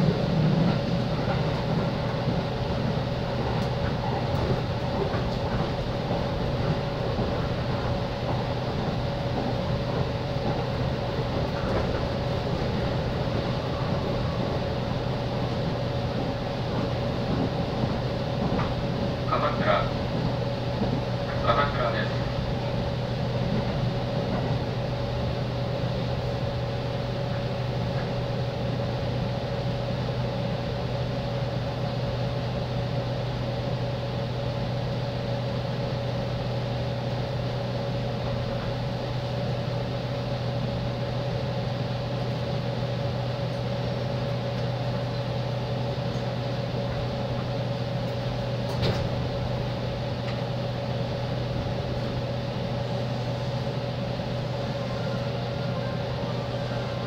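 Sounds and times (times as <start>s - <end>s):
train cabin low drone: 0.0s - 57.0s.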